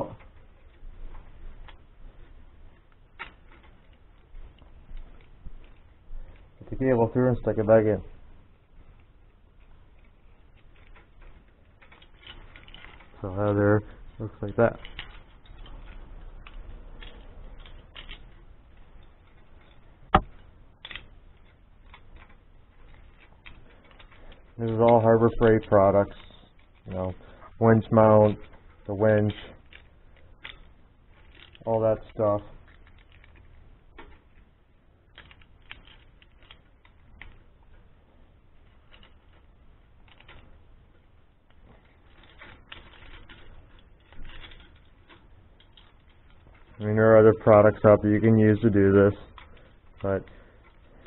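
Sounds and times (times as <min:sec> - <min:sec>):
faint rustles: 0:00.0 - 0:51.0
low steady hum: 0:00.0 - 0:51.0
winch cable clicking and rattling: 0:00.0 - 0:51.0.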